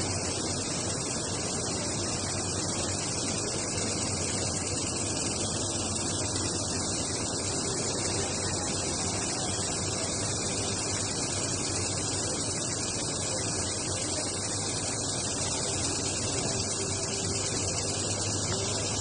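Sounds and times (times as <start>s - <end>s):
loom running hiss: 0.0s - 19.0s.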